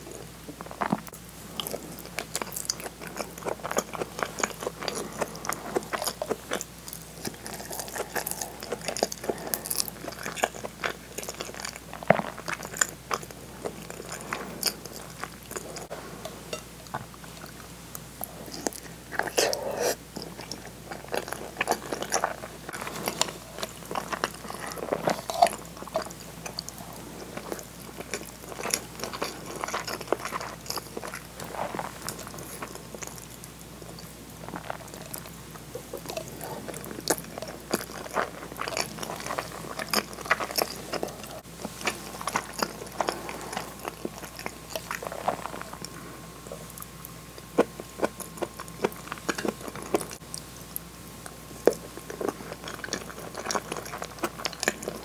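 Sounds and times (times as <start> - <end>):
person chewing soft food: 0.0 - 55.0.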